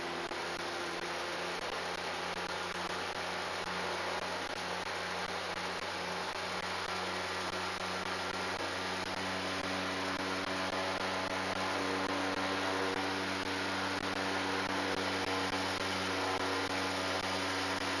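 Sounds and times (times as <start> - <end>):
aircraft engine droning: 0.0 - 18.0.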